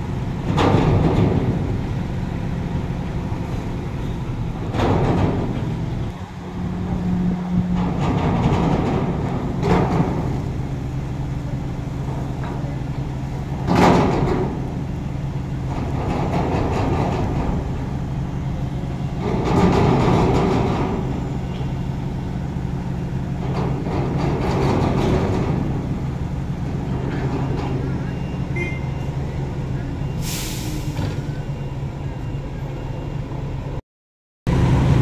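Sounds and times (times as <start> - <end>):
diesel engine idling: 0.0 - 33.8.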